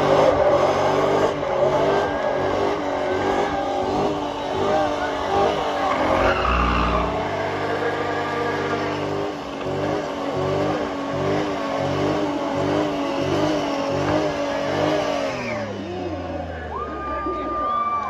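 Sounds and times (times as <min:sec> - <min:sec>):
engine revving high: 0:00.0 - 0:16.3.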